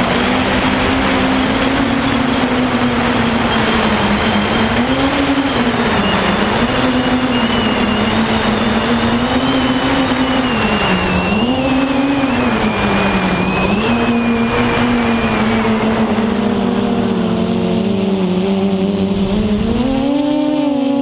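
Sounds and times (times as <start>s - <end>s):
drone motors humming: 0.0s - 21.0s
rushing wind noise: 0.0s - 21.0s.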